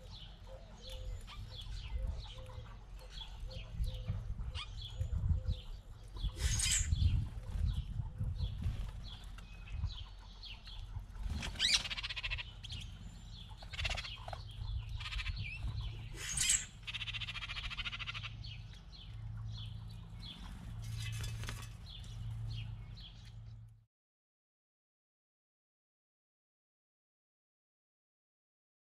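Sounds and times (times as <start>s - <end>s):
songbirds chirping: 0.0s - 23.9s.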